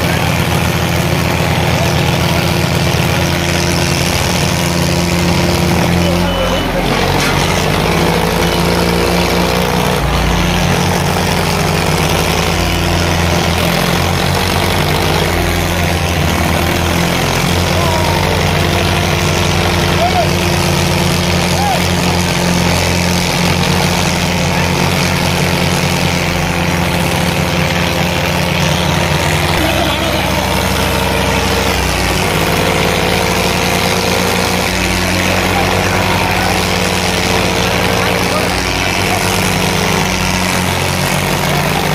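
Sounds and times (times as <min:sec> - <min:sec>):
tractor diesel engines droning: 0:00.0 - 0:41.9.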